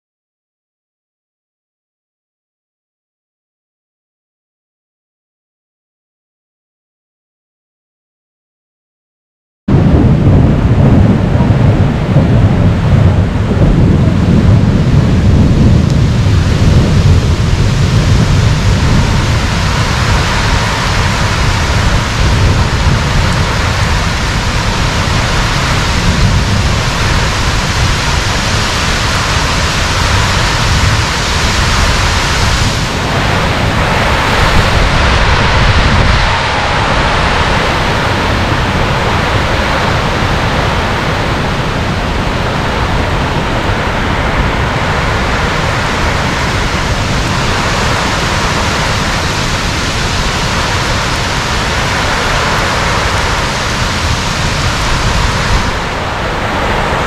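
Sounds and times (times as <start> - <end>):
gusting wind through trees: 9.7 - 57.0
heavy driving rain: 9.7 - 57.0
wind buffeting microphone: 9.7 - 57.0.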